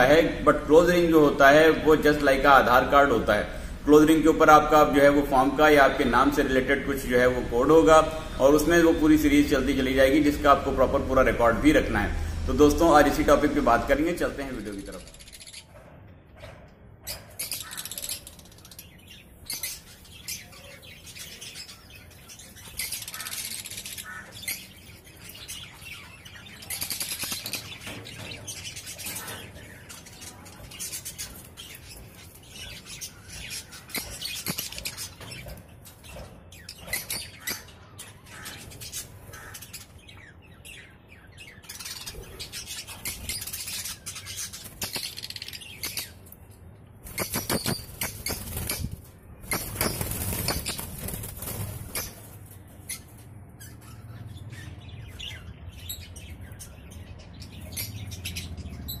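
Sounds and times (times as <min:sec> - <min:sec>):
parrots chirping and chattering: 0:00.0 - 0:59.0.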